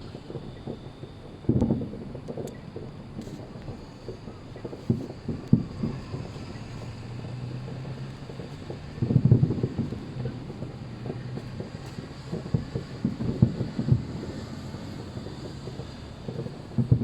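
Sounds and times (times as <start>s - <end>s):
fireworks booming: 0.0s - 17.0s
steady rumble: 0.0s - 17.0s.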